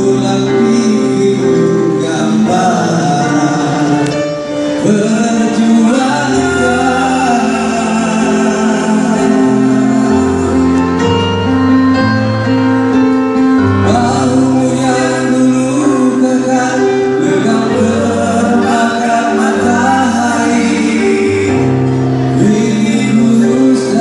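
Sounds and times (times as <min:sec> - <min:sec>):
men singing: 0:00.0 - 0:11.2, 0:13.9 - 0:24.0
live band music: 0:00.0 - 0:24.0.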